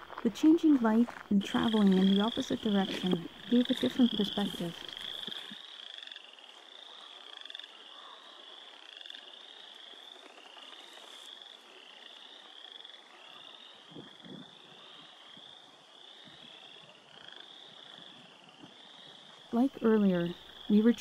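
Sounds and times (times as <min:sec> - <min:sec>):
frogs trilling in chorus: 0:00.0 - 0:21.0.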